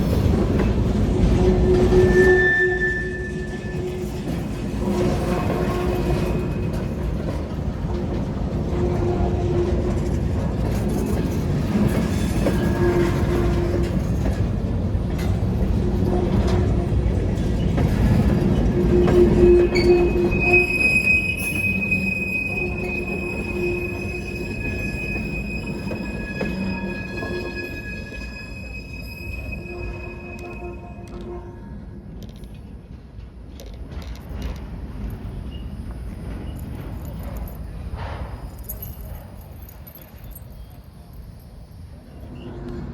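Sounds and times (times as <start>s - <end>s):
freight train rumbling past: 0.0s - 39.5s
train wheels squealing: 0.9s - 7.3s, 8.1s - 14.5s, 15.1s - 31.6s, 34.4s - 42.9s.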